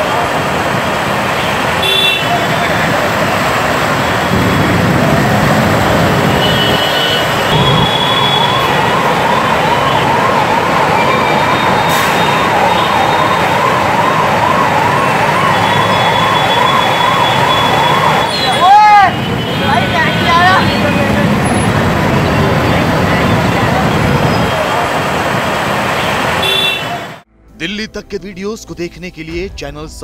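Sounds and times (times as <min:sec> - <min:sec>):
road traffic noise: 0:00.0 - 0:27.3
siren wailing: 0:02.3 - 0:27.2.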